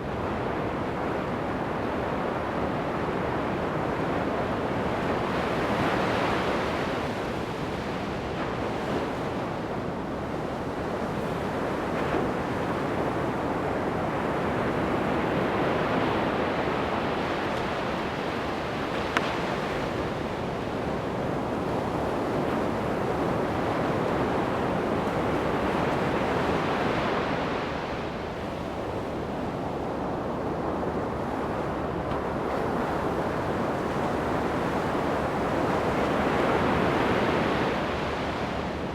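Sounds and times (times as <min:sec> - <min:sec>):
waves breaking on sandy beach: 0:00.1 - 0:38.9.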